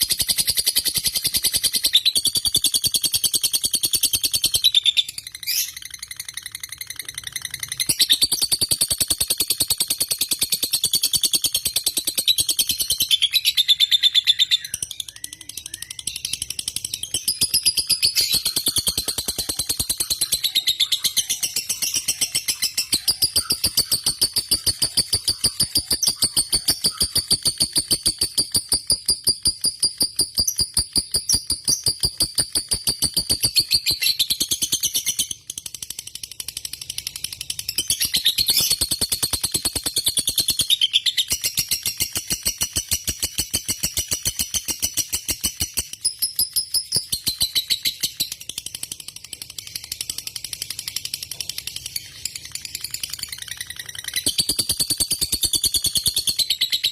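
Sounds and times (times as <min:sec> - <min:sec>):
lovebird chattering trill: 0:00.0 - 0:35.4, 0:37.8 - 0:48.2.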